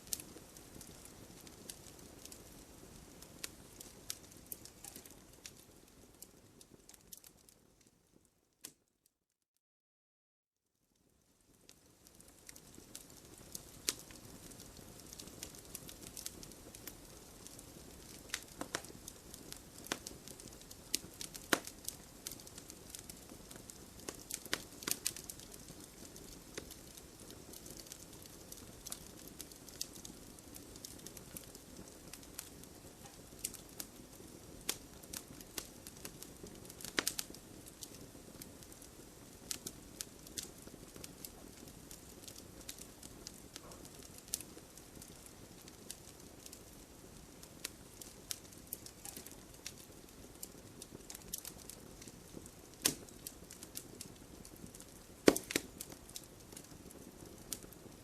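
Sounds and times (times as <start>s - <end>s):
burning wood popping and crackling: 0.0s - 7.6s, 11.4s - 58.0s
campfire flames hissing: 0.0s - 7.6s, 11.4s - 58.0s.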